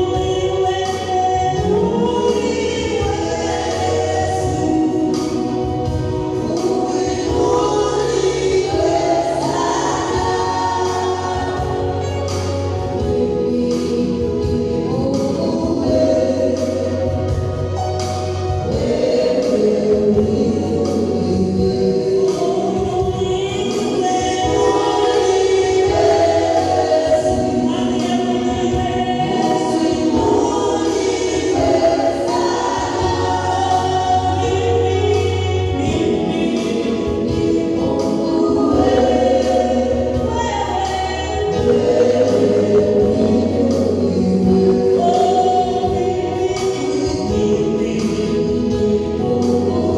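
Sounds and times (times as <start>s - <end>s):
bass accompaniment: 0.0s - 49.9s
choir and congregation singing: 0.0s - 49.9s.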